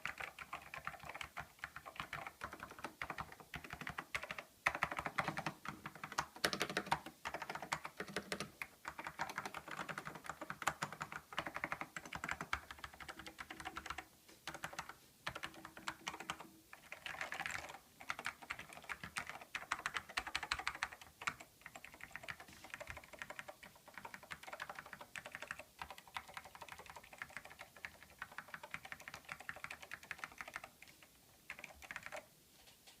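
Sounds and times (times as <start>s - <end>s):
fast keyboard typing: 0.0s - 32.3s.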